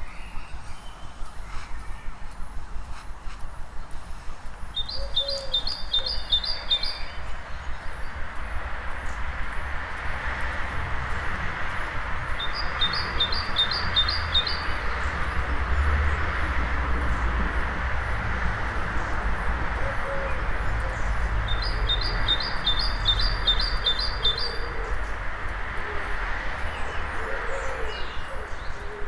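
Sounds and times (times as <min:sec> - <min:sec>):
rumble of town traffic: 0:00.0 - 0:29.0.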